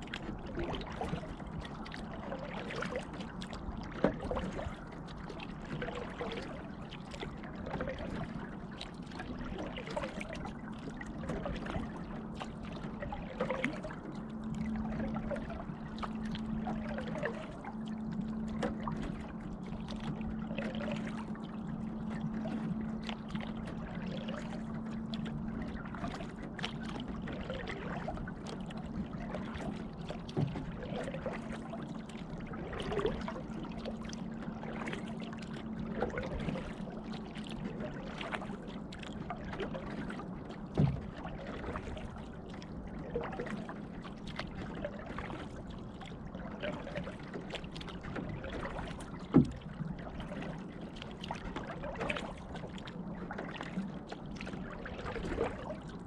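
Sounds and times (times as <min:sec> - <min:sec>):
steady low hum: 0:00.0 - 0:50.9
paddle dipping in water: 0:00.0 - 0:56.0.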